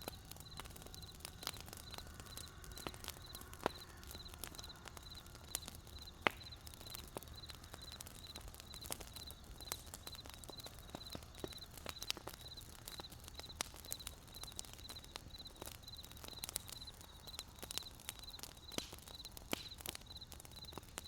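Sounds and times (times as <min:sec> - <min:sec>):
campfire crackling and popping: 0:00.0 - 0:21.0
cricket chirping: 0:00.0 - 0:21.0.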